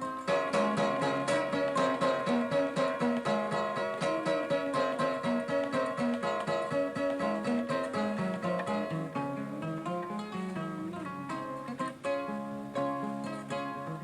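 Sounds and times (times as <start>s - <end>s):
harp-lute plucked solo: 0.0s - 14.0s.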